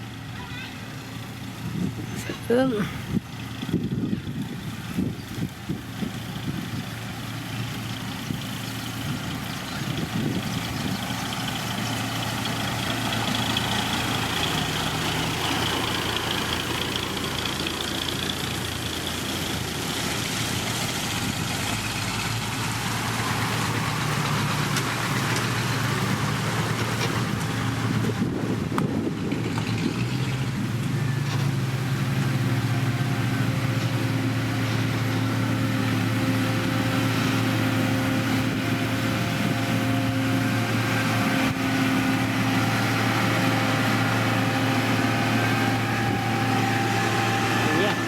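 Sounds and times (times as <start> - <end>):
heavy diesel engine running: 0.0 - 48.0.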